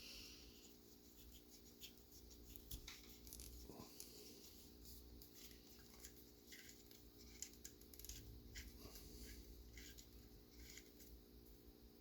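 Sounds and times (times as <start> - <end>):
low steady hum: 0.0 - 12.0
cotton swab rubbing: 0.6 - 11.0.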